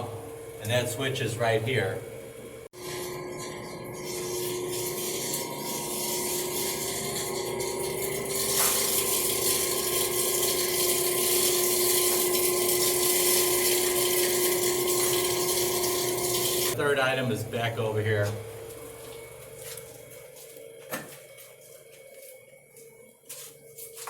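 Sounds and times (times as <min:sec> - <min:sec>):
mechanical equipment hum: 0:00.0 - 0:24.0.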